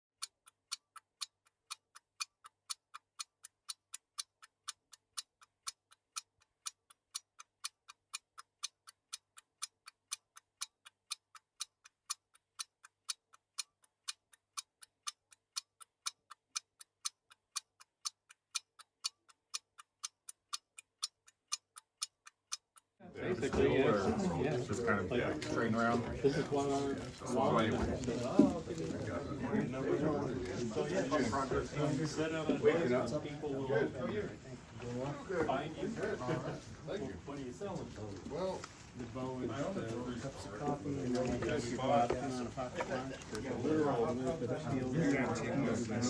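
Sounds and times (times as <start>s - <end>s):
clock ticking: 0.2s - 46.0s.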